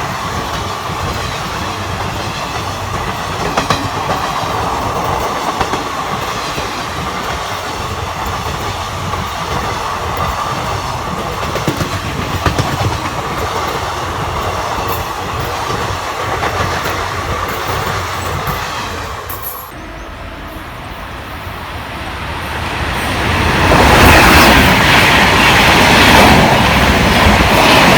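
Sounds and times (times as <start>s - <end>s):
passenger train passing: 0.0s - 27.9s.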